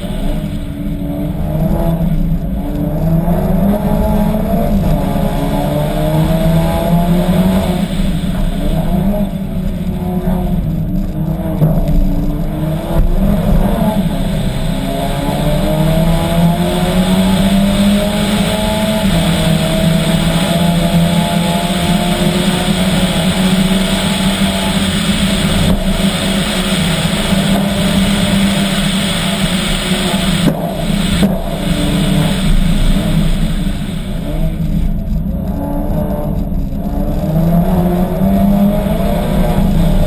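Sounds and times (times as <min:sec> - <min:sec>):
car engine accelerating: 0:00.0 - 0:40.0
tyre and gravel road noise: 0:00.0 - 0:40.0.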